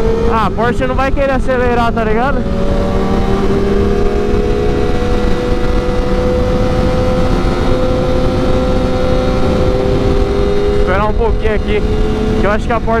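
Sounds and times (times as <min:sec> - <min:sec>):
motorcycle engine cruising: 0:00.0 - 0:13.0
wind noise rushing: 0:00.0 - 0:13.0.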